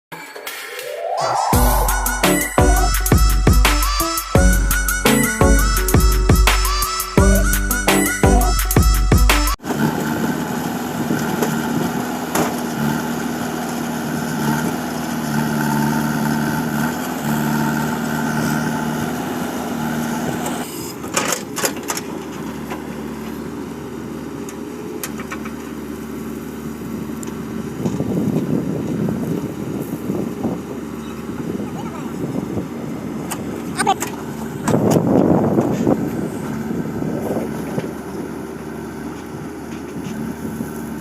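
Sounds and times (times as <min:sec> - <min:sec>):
backhoe diesel engine running: 0:01.6 - 0:41.0.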